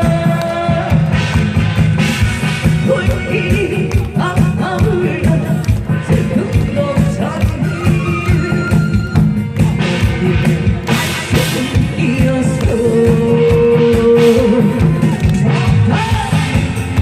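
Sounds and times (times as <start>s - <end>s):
backing track with steady beat: 0.0s - 17.0s.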